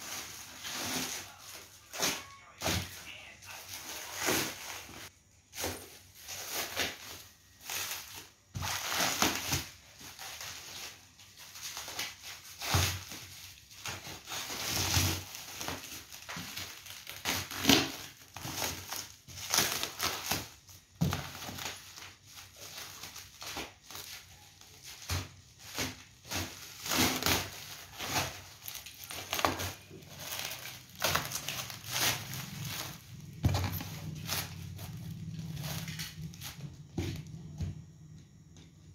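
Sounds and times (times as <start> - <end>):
plastic wrap crinkling and tearing: 0.0 - 37.3.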